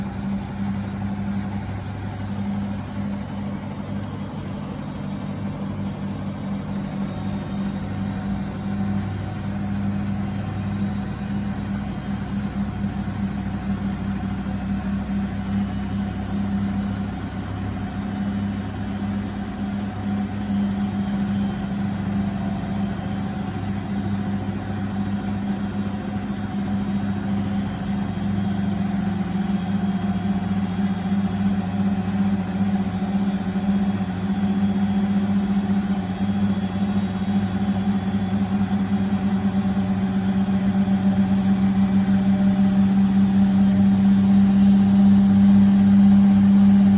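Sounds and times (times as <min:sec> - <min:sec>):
high-pitched motor whine: 0:00.0 - 0:46.9
washing machine spinning: 0:00.0 - 0:46.9.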